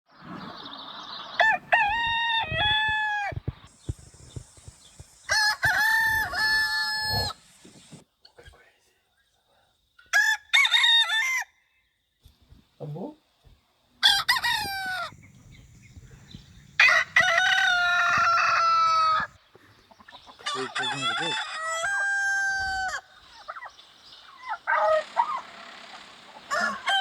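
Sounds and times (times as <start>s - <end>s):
roosters crowing: 0.3s - 8.0s, 10.1s - 11.5s, 14.0s - 27.0s.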